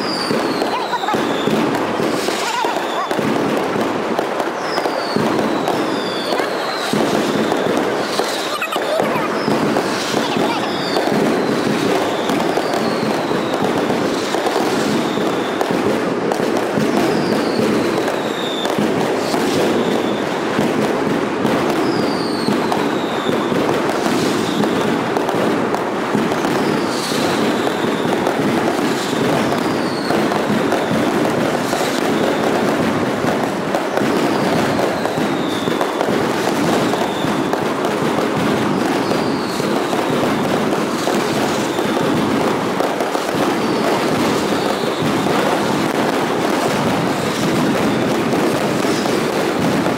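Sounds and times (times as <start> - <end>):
firecrackers crackling: 0.0 - 49.9
whistling fireworks: 0.0 - 49.9.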